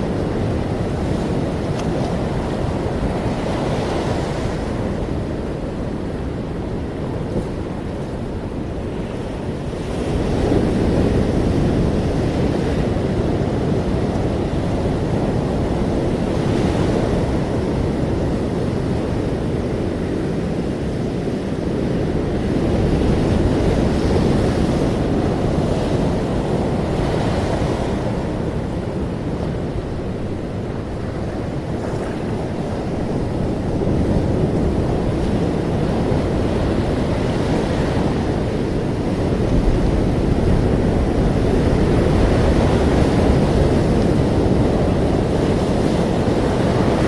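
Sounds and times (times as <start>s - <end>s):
ocean waves breaking: 0.0s - 47.0s
wind on microphone: 0.0s - 47.0s.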